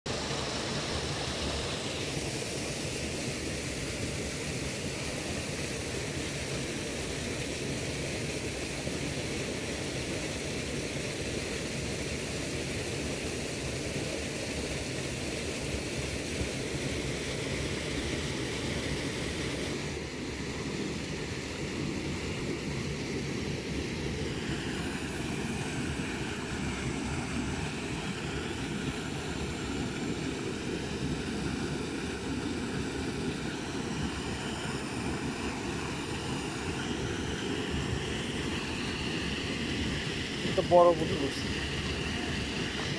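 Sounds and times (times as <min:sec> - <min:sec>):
river water rushing: 0:00.1 - 0:42.9.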